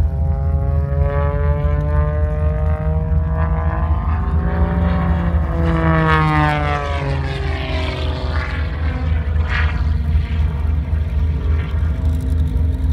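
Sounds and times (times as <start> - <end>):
propeller plane engine droning: 0.0 - 12.9.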